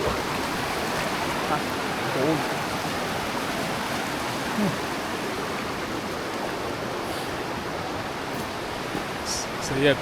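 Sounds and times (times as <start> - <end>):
fast-flowing river rushing: 0.0 - 10.0.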